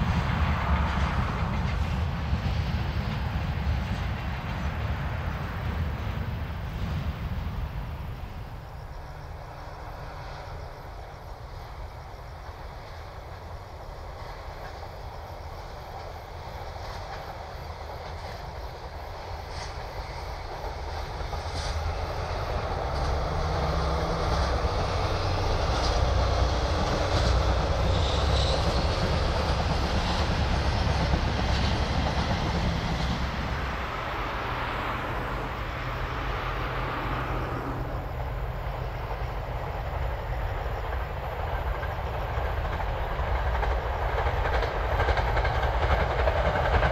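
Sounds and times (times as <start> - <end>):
diesel locomotive engine passing: 0.0 - 46.9
freight wagons rolling by: 0.0 - 46.9.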